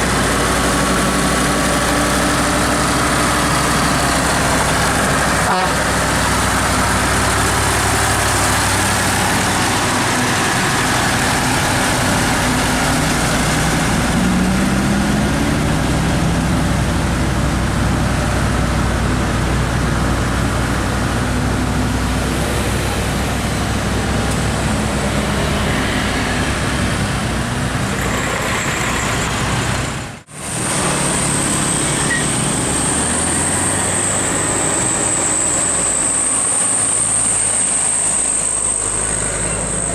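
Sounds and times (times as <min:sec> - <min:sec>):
vehicles passing: 0:00.0 - 0:39.9.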